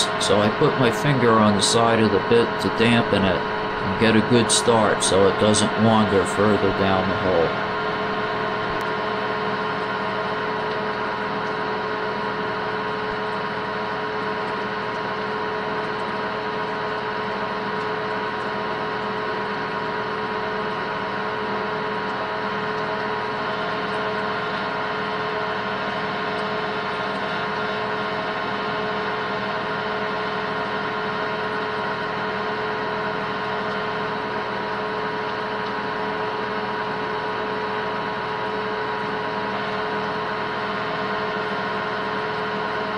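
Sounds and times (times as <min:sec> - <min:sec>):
metal lathe humming: 0:00.0 - 0:42.9.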